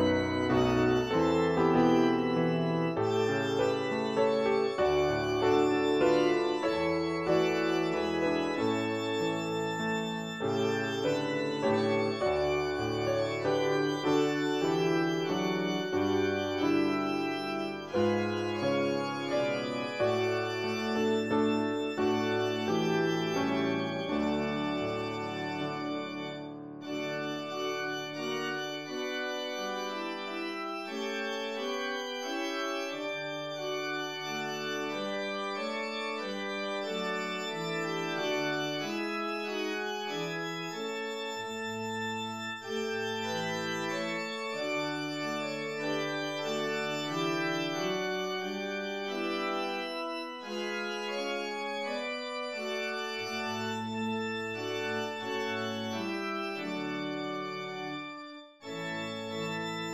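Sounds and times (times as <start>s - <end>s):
organ playing slow chords: 0.0s - 59.9s.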